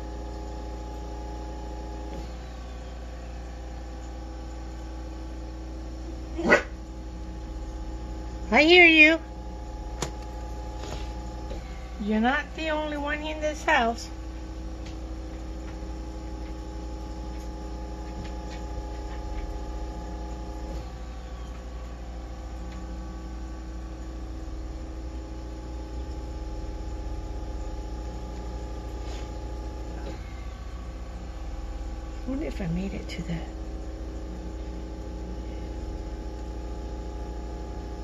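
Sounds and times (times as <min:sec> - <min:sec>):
steady electrical hum: 0:00.0 - 0:38.0.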